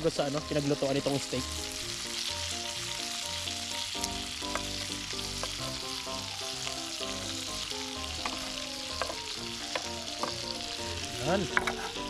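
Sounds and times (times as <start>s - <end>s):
steak sizzling in a grill pan: 0.0s - 12.0s.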